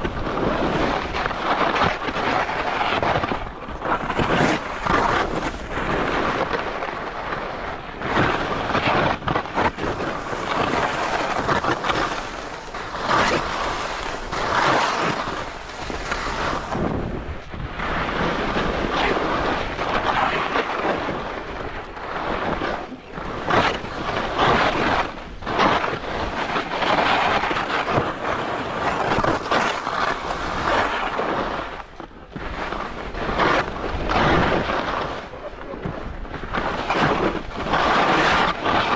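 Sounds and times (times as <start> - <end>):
skis scraping over snow: 0.0 - 38.9
wind rumbling on microphone: 0.0 - 38.9.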